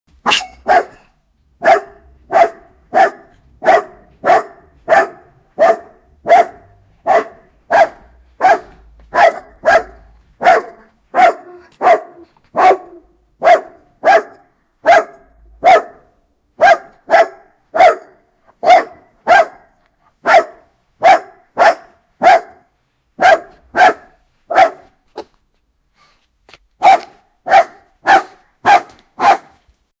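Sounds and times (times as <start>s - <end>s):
dog barking aggressively: 0.2s - 25.0s, 26.8s - 29.6s.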